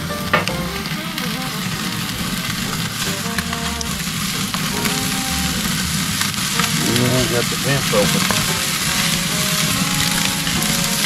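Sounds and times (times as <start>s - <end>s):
chicken sizzling on grill: 0.0s - 11.0s
flames flaring: 0.0s - 11.0s.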